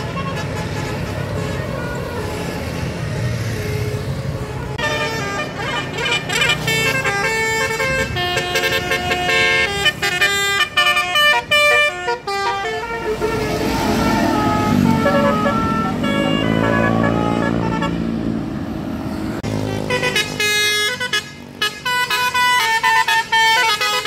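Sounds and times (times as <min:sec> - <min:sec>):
multi-tone bus horn tune: 0:00.0 - 0:18.6, 0:19.4 - 0:24.0.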